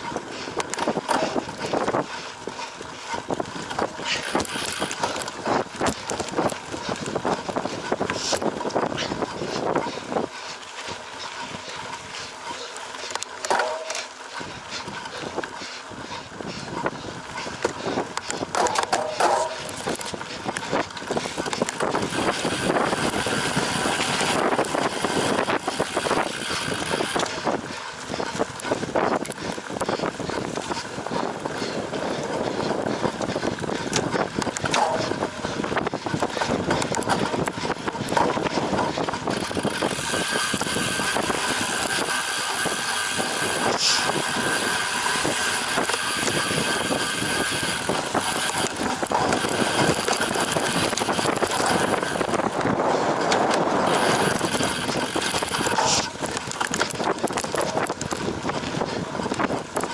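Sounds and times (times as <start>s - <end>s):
bicycle chain and frame rattling: 0.0s - 59.9s
bicycle tyres rolling on dirt: 0.0s - 59.9s
steady rush of noise: 0.0s - 59.9s.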